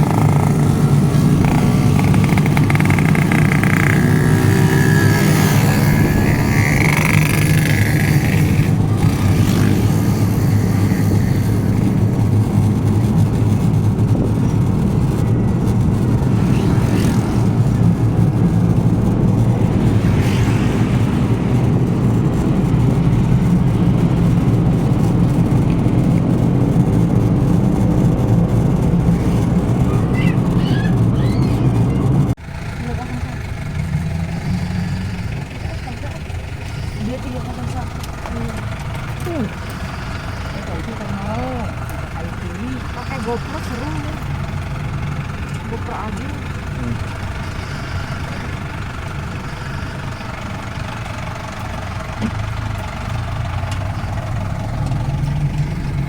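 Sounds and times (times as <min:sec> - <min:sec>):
vehicle engine running under load: 0:00.0 - 0:56.0.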